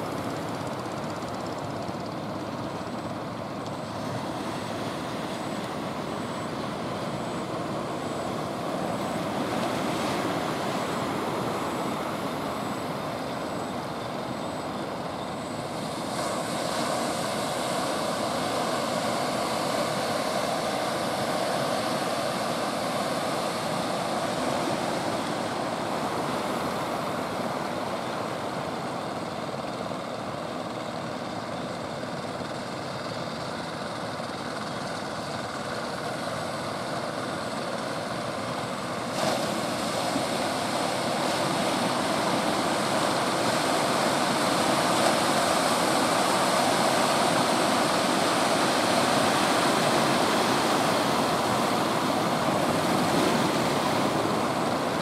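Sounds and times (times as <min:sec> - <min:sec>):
boat engine drone: 0:00.0 - 0:55.0
surf rushing: 0:03.0 - 0:30.0, 0:35.4 - 0:55.0.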